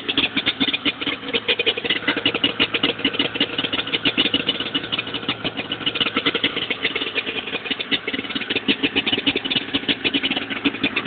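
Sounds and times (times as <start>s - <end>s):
snowmobile engine idling: 0.0s - 11.0s.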